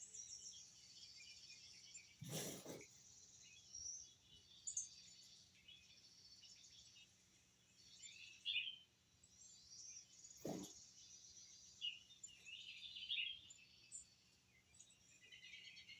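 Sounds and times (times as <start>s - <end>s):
faint high-pitched chirps: 0.0s - 15.9s.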